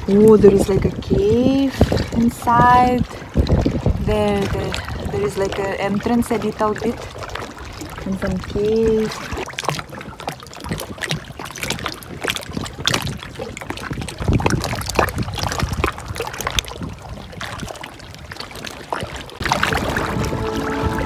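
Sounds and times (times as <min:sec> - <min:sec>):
water splashing from swimming: 0:00.0 - 0:21.0.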